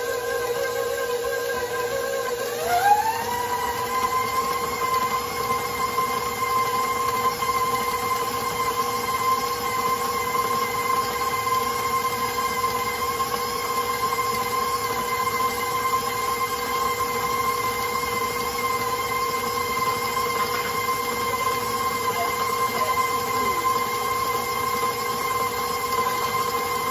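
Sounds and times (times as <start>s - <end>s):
stand mixer motor whine: 0.0s - 26.9s.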